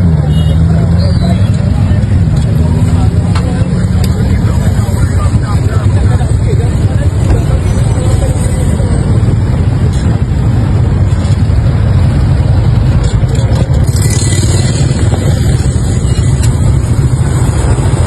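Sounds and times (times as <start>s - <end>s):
vehicle road noise rumble: 0.0s - 18.0s.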